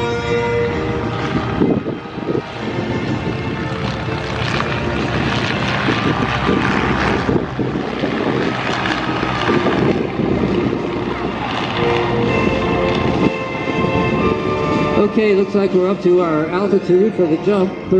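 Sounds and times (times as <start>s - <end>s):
propeller airplane engines droning: 0.0s - 17.9s.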